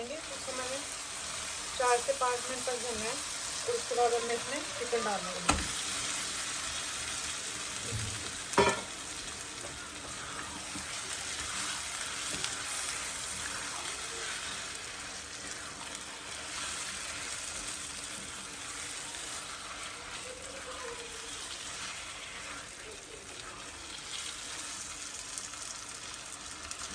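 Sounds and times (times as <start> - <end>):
sauce sizzling in oil: 0.0 - 26.9.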